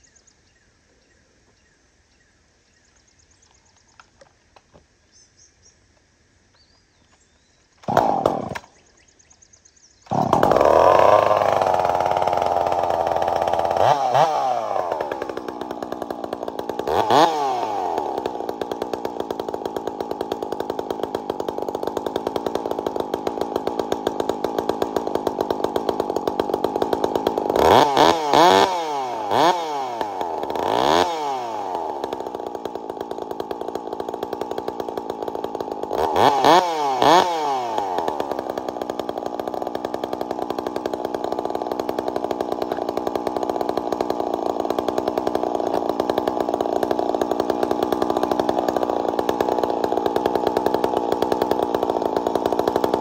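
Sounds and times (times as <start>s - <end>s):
chainsaw starting and revving: 7.8s - 8.8s, 10.0s - 53.0s.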